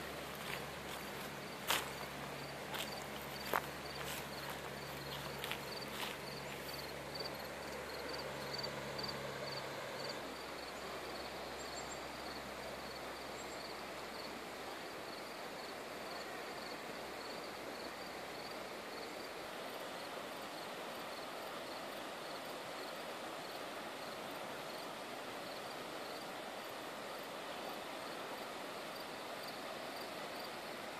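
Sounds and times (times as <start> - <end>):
river flowing over gravel: 0.0 - 30.9.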